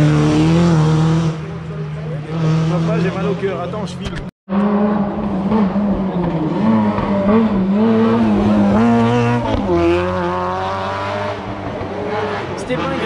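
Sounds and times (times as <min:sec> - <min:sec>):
rally car passing at full throttle: 0:00.0 - 0:13.0.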